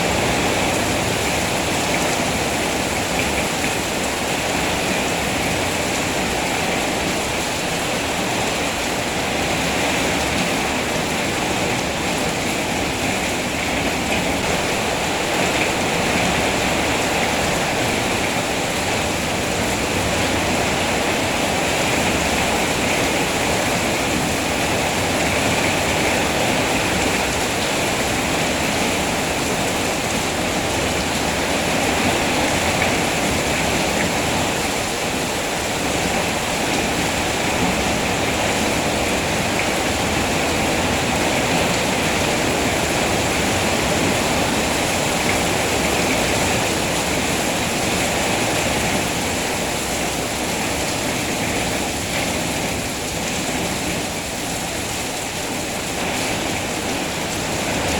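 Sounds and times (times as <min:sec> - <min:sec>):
rain falling steadily: 0:00.0 - 0:57.9.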